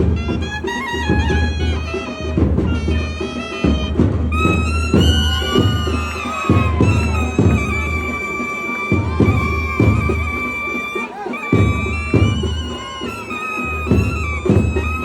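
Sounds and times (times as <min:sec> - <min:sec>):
double-reed pipe melody: 0:00.0 - 0:15.0
drum strokes: 0:00.0 - 0:15.0.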